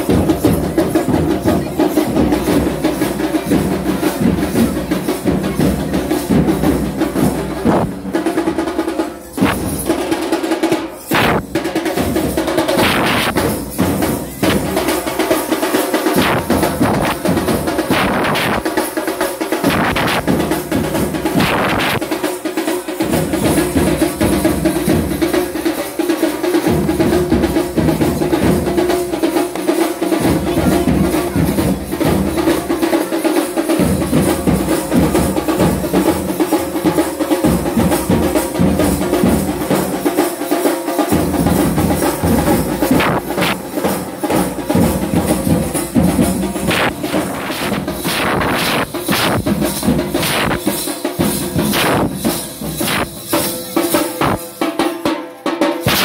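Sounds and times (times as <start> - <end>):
metal hand shakers rattling: 0.0 - 54.9, 55.8 - 56.0
drums beating steady rhythm: 0.0 - 56.0.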